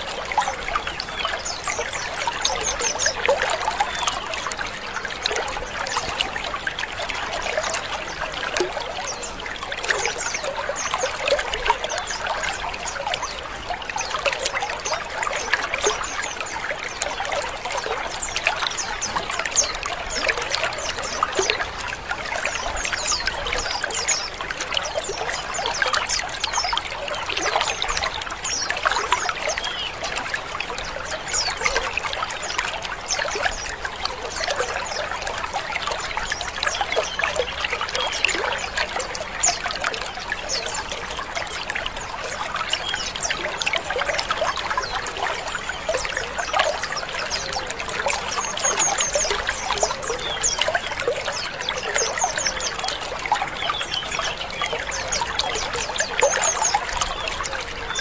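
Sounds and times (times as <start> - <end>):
chorus of bird chirps: 0.0 - 58.0.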